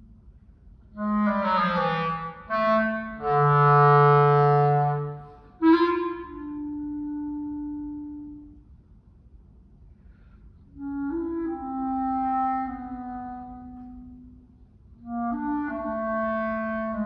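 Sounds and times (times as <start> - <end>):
solo clarinet: 0.9 - 8.8, 10.6 - 17.0.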